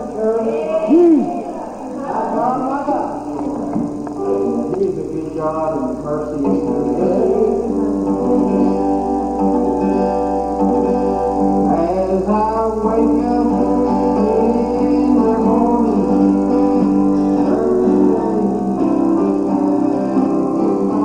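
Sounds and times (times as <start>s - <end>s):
gospel song with guitar: 0.0s - 21.0s
person singing: 0.0s - 21.0s.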